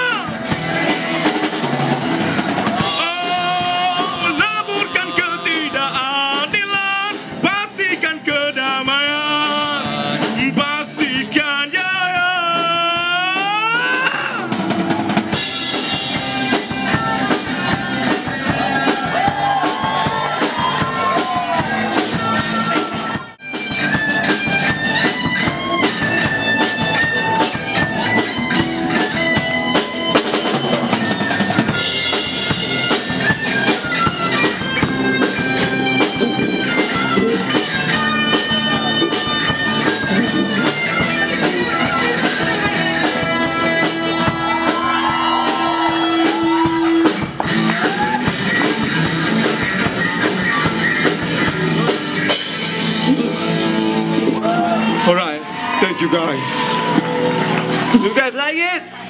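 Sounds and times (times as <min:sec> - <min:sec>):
drum kit beat: 0:00.0 - 0:55.8
electric and acoustic guitars: 0:00.0 - 0:59.0.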